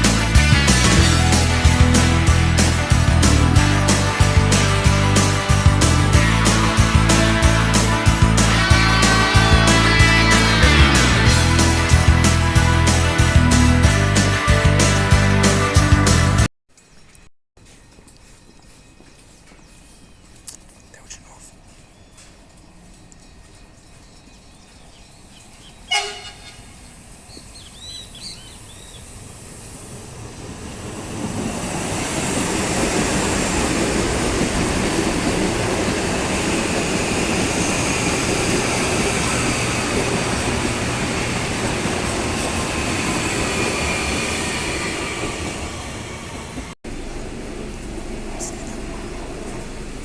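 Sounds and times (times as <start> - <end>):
train wheel and rail noise: 0.0 - 16.3, 17.1 - 50.0.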